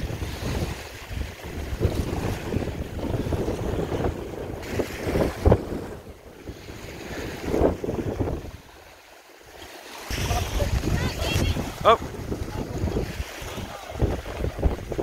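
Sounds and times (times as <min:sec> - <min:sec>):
wind buffeting microphone: 0:00.0 - 0:08.9, 0:10.1 - 0:15.0
waves washing at shore: 0:00.0 - 0:15.0.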